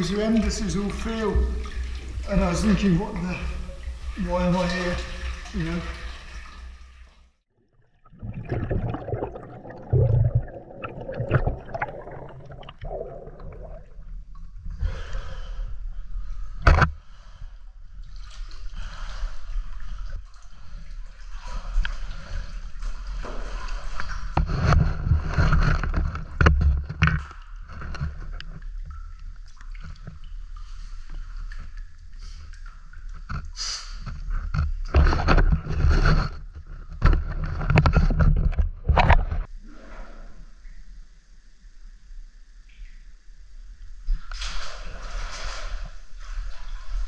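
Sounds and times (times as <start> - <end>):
water sloshing and gurgling: 0.0 - 41.2, 42.6 - 47.0.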